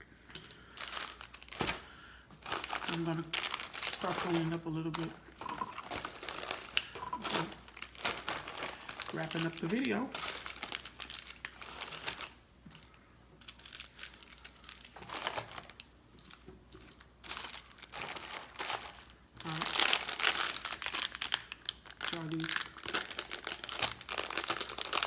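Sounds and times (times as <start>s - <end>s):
plastic wrappers crinkling: 0.3s - 25.0s.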